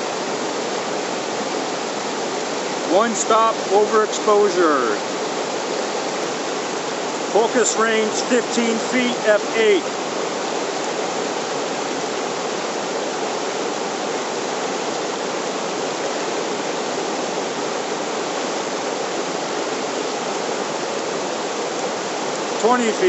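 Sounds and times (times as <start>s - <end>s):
rapids rushing over rocks: 0.0s - 23.0s.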